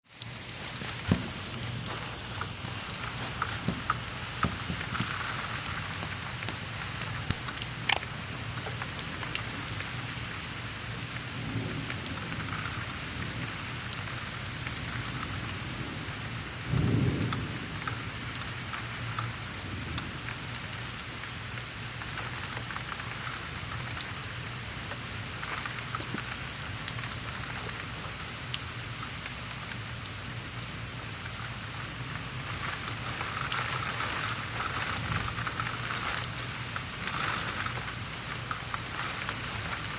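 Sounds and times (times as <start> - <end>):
steady rain: 0.0 - 39.9
low rumble of thunder: 0.3 - 39.9.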